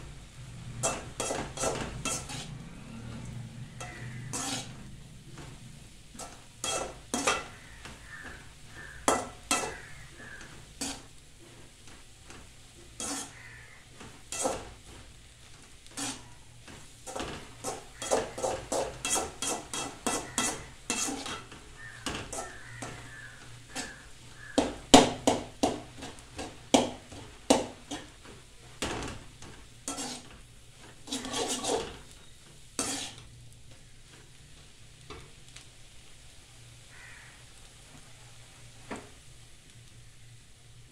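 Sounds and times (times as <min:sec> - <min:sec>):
metal spatula scraping a pan: 0:00.2 - 0:35.4.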